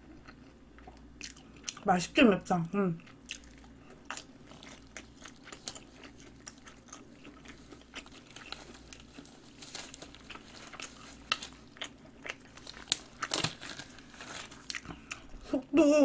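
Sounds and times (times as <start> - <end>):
chewing crunchy food: 0.0 - 1.9, 3.0 - 15.6.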